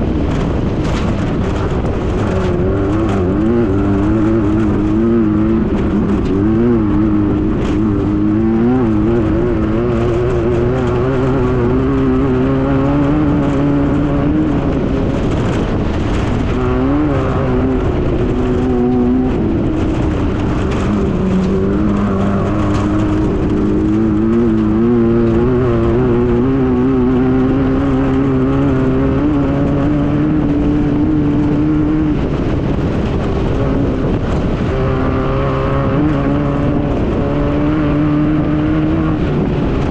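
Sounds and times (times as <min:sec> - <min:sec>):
buggy engine revving: 0:00.0 - 0:39.9.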